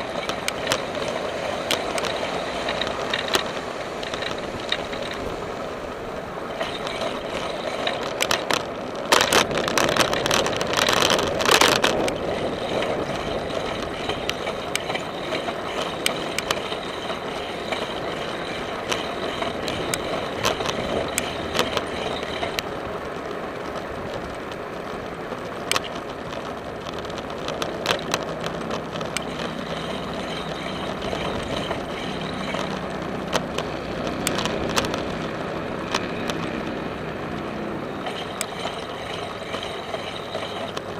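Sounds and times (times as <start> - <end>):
bicycle tyre and road noise: 0.0 - 40.9
bike clicks and rattles: 0.0 - 40.9.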